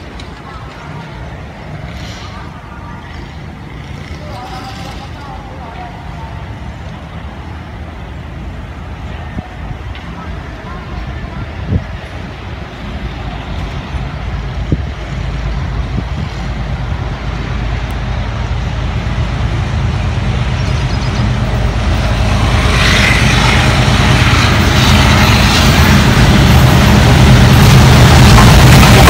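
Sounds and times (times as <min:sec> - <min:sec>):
locomotive engine drone: 0:00.0 - 0:29.0
wheel and rail noise: 0:00.0 - 0:29.0.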